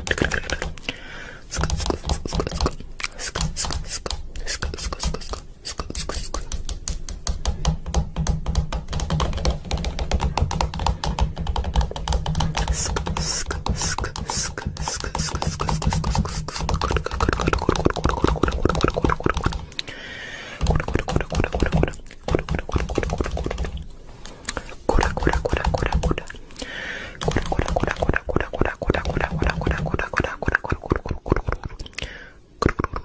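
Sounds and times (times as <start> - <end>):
beatboxing mouth clicks: 0.0 - 7.7, 9.8 - 20.0, 20.6 - 33.0.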